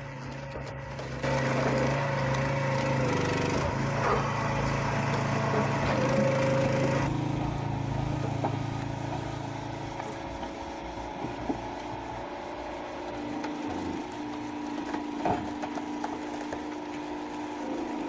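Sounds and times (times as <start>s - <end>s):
machine engine running: 0.0s - 18.0s.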